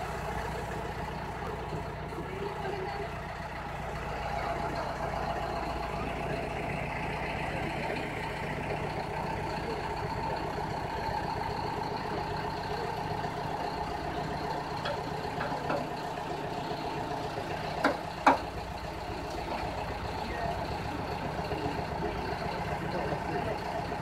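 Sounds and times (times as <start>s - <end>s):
diesel locomotive idling: 0.0s - 24.0s.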